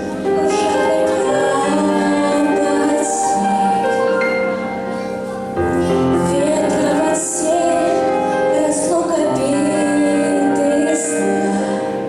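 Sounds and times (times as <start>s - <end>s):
recorded backing track: 0.0s - 12.0s
girl singing: 0.2s - 5.1s, 5.8s - 11.8s.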